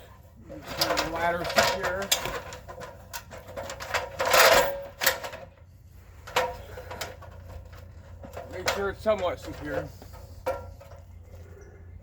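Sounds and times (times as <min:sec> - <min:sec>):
ladder scraping: 0:00.5 - 0:11.4
ladder clanking and knocking: 0:00.6 - 0:05.5, 0:06.3 - 0:11.1.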